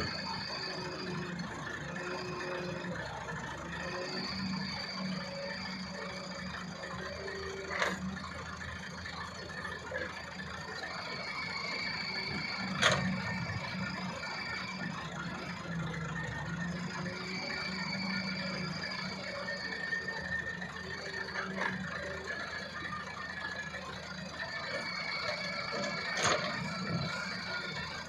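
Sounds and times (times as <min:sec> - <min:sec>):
diesel engines running: 0:00.0 - 0:28.0
excavator high whine: 0:00.0 - 0:28.0.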